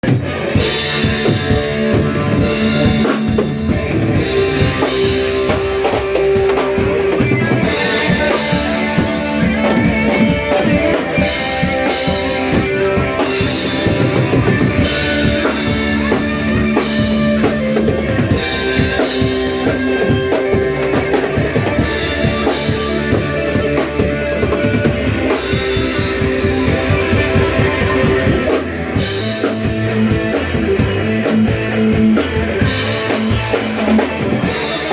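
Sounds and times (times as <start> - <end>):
rock band playing: 0.0 - 34.9.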